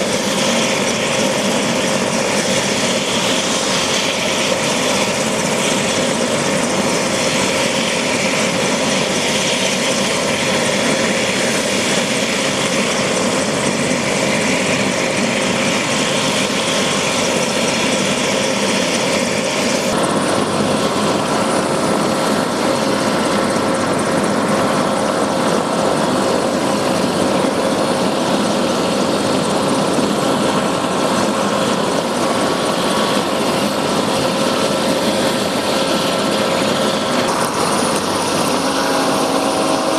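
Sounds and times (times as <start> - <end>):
helicopter turbine and rotor running: 0.0 - 39.9.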